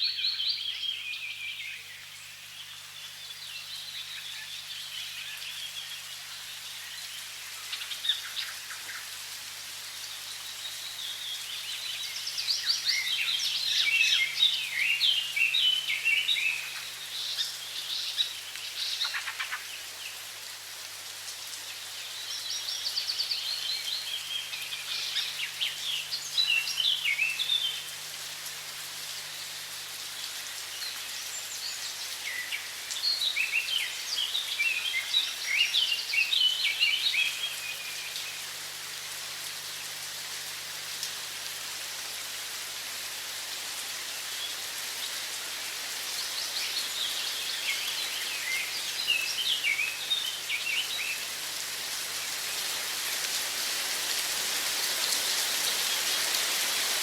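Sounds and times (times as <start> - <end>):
songbirds chirping: 0.0 - 53.5
running water hiss: 0.0 - 57.0.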